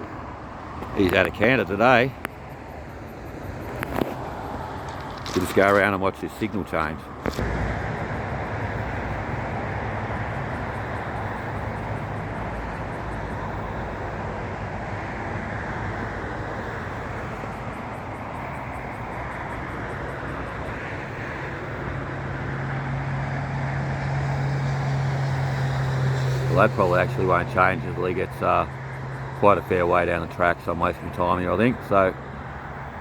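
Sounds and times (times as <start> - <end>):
approaching vehicle engine hum: 0.0 - 33.0
road traffic rumble: 0.0 - 33.0.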